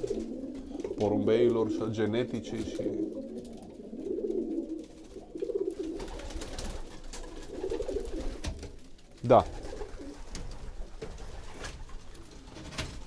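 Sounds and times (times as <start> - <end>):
pigeons cooing: 0.0 - 8.5, 9.4 - 12.5.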